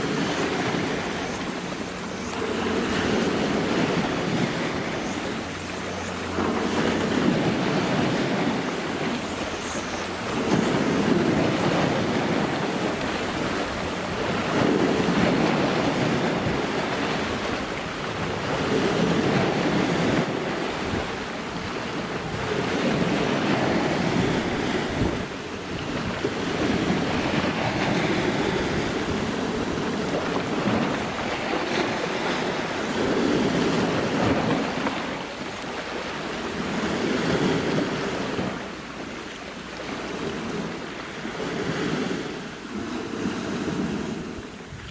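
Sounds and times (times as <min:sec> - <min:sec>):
wind buffeting microphone: 0:00.0 - 0:39.1, 0:39.9 - 0:44.9
waves washing in: 0:00.0 - 0:44.9.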